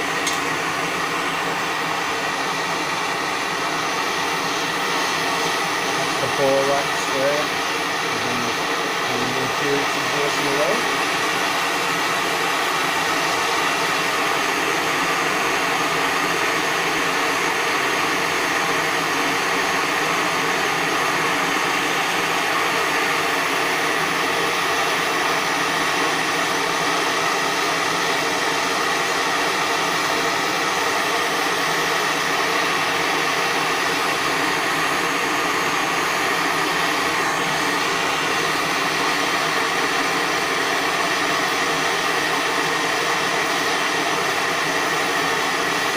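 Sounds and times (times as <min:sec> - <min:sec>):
gas torch flame rushing: 0:00.0 - 0:45.9.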